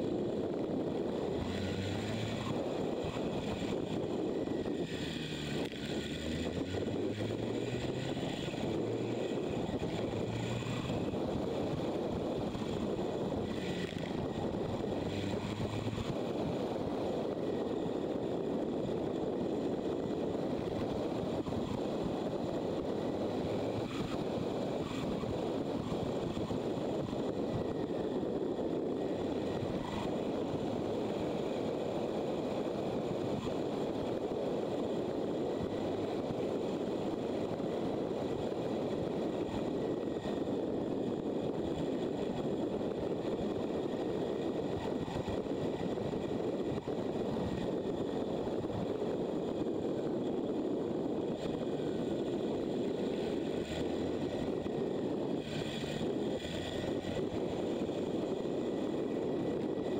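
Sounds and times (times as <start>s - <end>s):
motorcycle engine and road noise: 0.0s - 59.9s
wind rushing over microphone: 0.0s - 59.9s.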